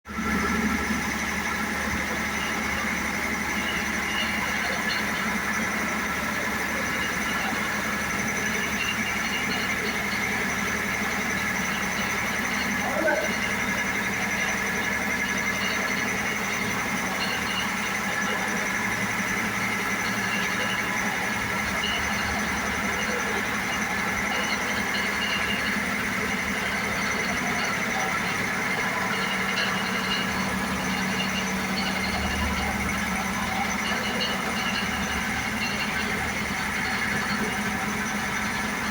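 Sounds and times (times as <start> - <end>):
compressor motor running: 0.1 - 38.9.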